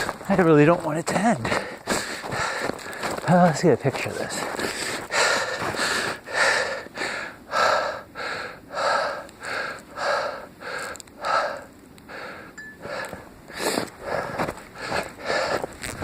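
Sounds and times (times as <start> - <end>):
heavy rhythmic breathing: 0.0 - 16.0.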